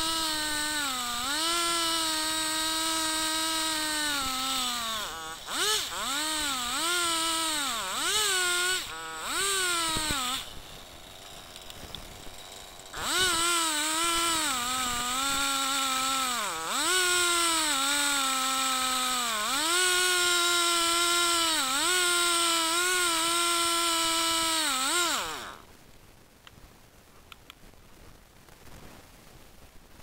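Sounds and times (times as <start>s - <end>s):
chainsaw revving: 0.0s - 25.7s.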